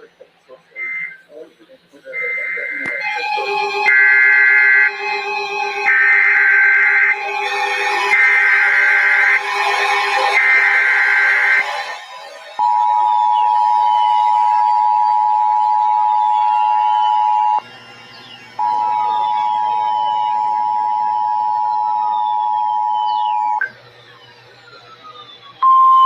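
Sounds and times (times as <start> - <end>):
single-pitch warning alarm tone: 2.1 - 24.3, 25.0 - 26.0
two-tone alert buzz: 2.2 - 23.7.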